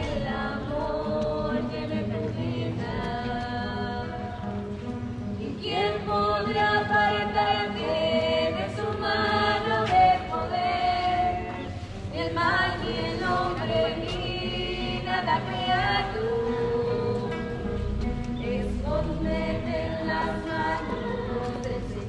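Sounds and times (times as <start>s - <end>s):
acoustic guitars: 0.0s - 22.0s
choir singing a hymn: 0.0s - 22.0s.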